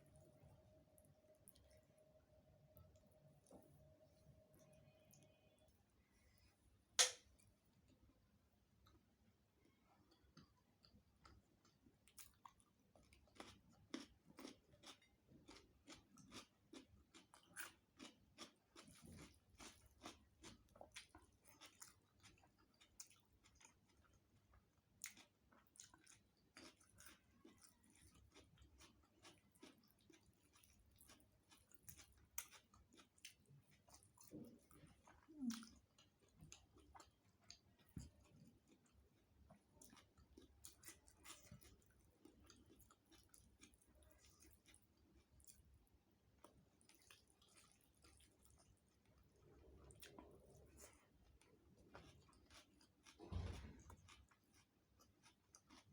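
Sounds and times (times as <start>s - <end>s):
close chewing and mouth clicks: 0.2s - 55.9s.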